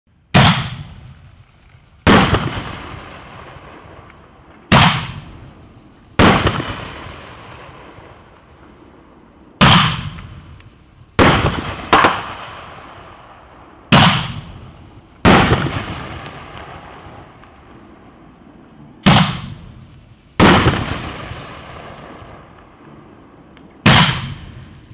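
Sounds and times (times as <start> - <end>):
firework bangs with echoing rumble: 0.3 - 8.5, 9.5 - 18.3, 19.0 - 22.8, 23.8 - 24.9.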